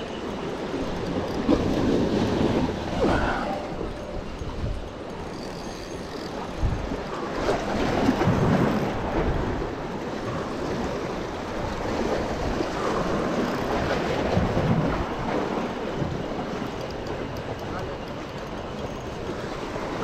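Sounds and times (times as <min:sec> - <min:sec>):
wind buffeting microphone: 0:00.0 - 0:05.5, 0:06.2 - 0:20.0.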